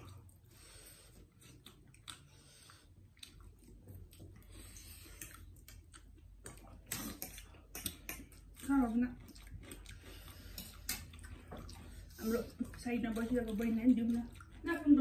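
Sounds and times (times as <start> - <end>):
chewing and slurping noodles: 0.0 - 15.0.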